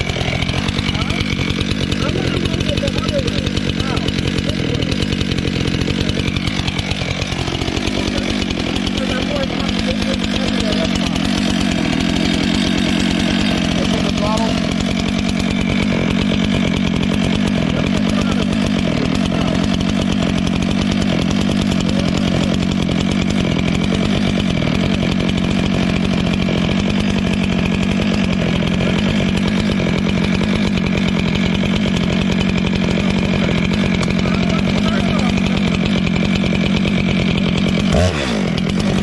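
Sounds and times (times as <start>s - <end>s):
chainsaw running at full throttle: 0.0s - 39.0s.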